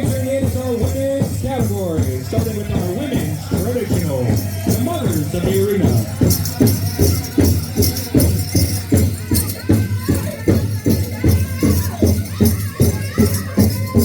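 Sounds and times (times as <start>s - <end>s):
big drum beating steadily: 0.0s - 14.0s
shaking jingle: 0.0s - 14.0s.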